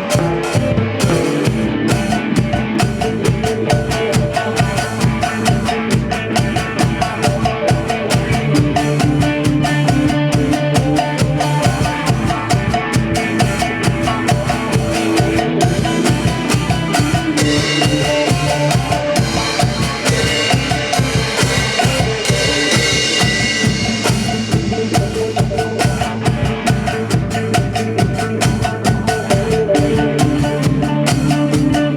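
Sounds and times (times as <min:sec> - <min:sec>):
instrumental band music: 0:00.0 - 0:31.9.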